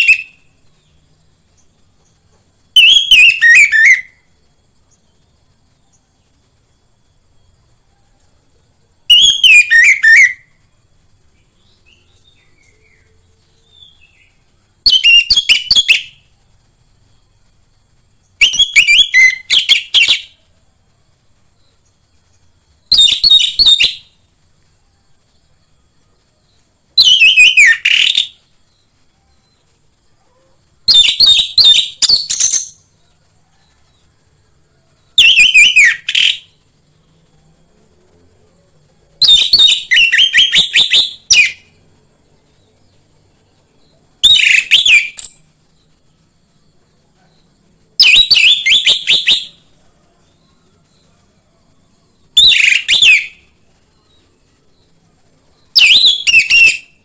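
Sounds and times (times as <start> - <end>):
thrush whistling song: 0.0 - 20.6, 21.4 - 34.2, 35.0 - 36.8, 39.1 - 41.8, 42.6 - 57.0
steady high hiss: 0.0 - 57.0.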